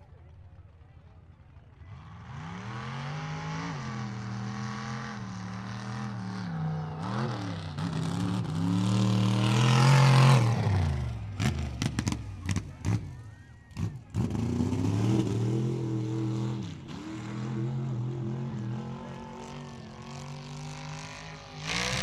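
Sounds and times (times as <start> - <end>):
truck engine revving: 1.8 - 22.0.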